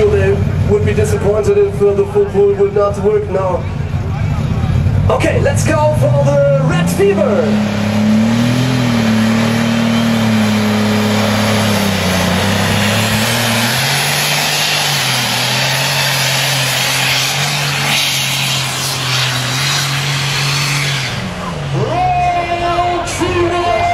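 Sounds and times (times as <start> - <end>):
tractor engine at full power: 0.0 - 23.9.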